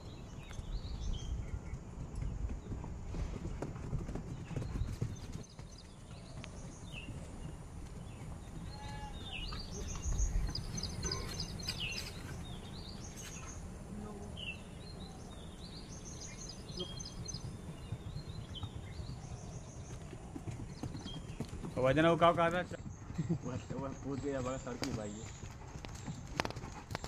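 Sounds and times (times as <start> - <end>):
horse hoofbeats on grass: 0.0 - 27.0.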